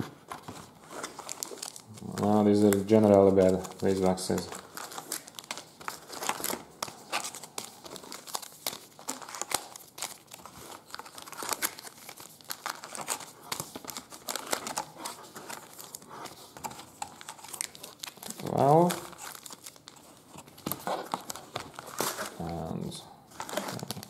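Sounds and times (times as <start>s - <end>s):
plastic wrappers crinkling and tearing: 0.0s - 24.0s.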